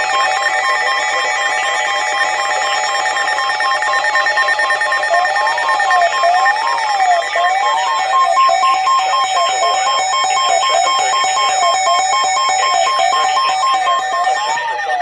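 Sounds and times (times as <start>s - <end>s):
two-pitch pulsing alarm tones: 0.0s - 15.0s
siren sweep rising and falling: 0.1s - 15.0s.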